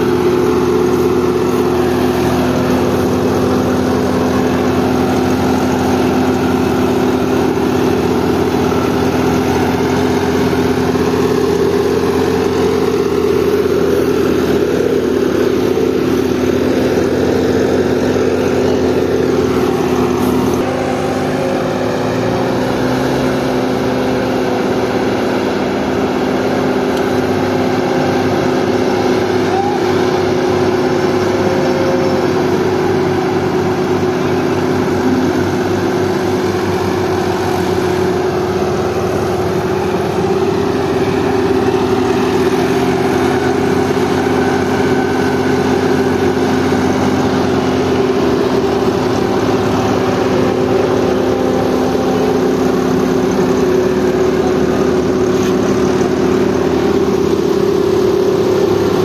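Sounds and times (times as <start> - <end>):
tractor diesel engine straining: 0.0 - 59.0.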